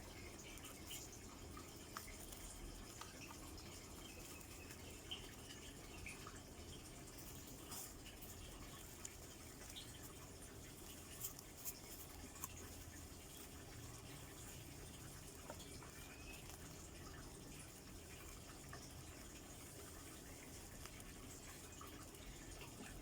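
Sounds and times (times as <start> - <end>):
faint room hiss: 0.0 - 23.0.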